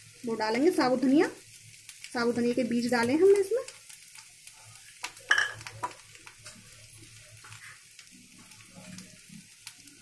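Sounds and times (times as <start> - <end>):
potatoes sizzling in hot oil: 0.0 - 10.0.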